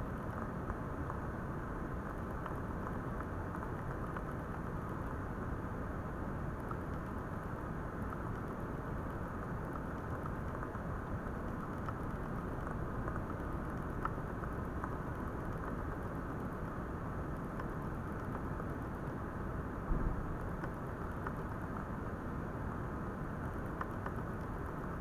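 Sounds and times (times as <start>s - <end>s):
faint scattered ticks: 0.1s - 25.0s.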